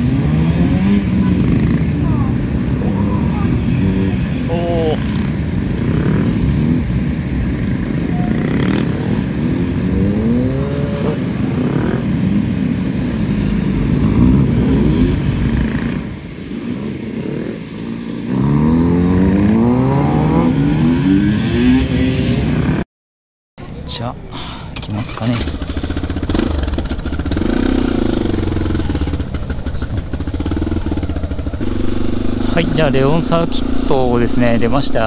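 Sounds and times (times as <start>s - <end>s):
motorcycle engine revving: 0.0s - 22.8s, 24.8s - 35.0s.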